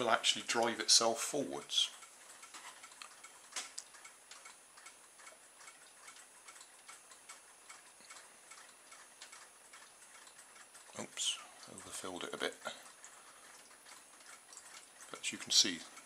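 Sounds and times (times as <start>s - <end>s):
faint irregular ticking: 0.0s - 16.0s.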